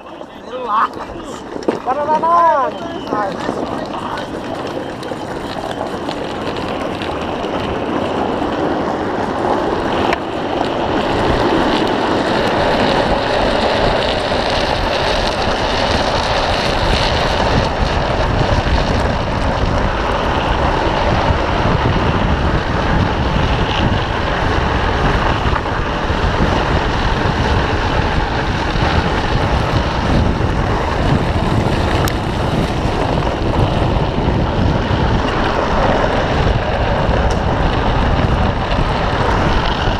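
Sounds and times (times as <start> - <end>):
wheels sliding on asphalt: 0.0 - 39.9
wind on microphone: 0.0 - 39.9.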